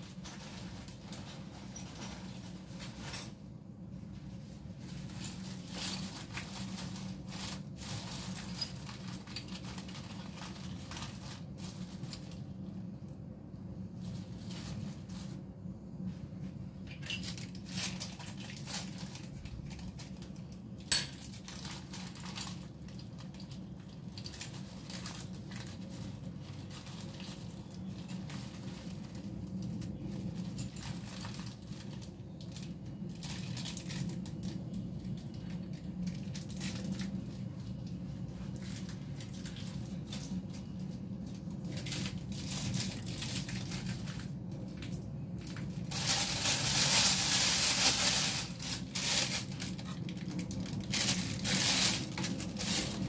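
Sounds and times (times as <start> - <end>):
rustling and clatter on a counter: 0.0 - 53.0
steady low hum: 0.0 - 53.0.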